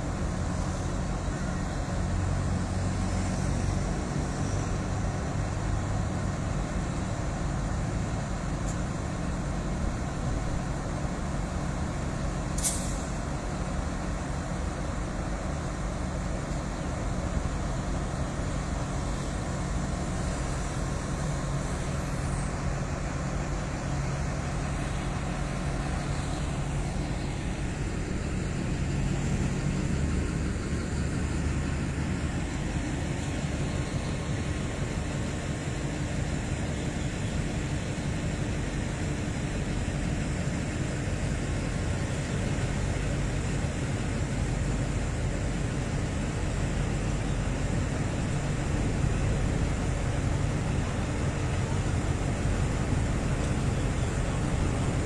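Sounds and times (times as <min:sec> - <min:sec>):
locomotive diesel engine running: 0:00.0 - 0:55.0.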